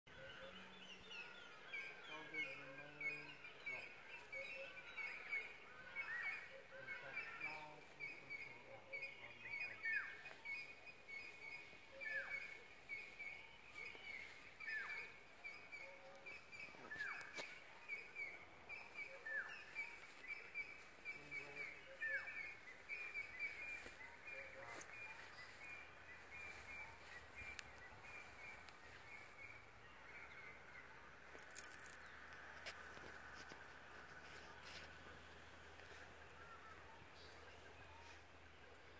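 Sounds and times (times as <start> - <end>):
high bird chatter: 0.1 - 38.5.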